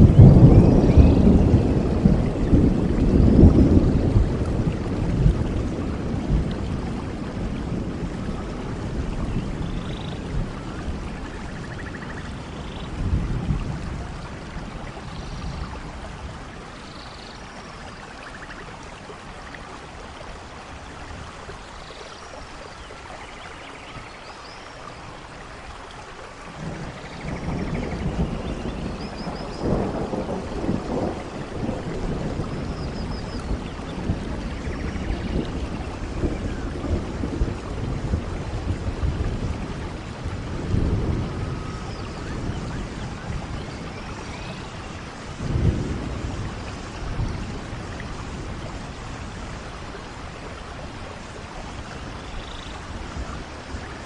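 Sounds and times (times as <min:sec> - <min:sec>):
thunder rumbling: 0:00.0 - 0:17.8, 0:26.4 - 0:54.0
steady rain: 0:00.0 - 0:54.0.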